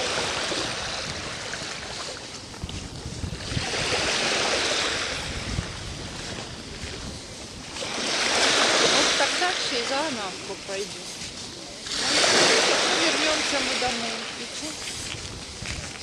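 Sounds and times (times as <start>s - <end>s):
waves washing onto sandy shore: 0.0s - 16.0s.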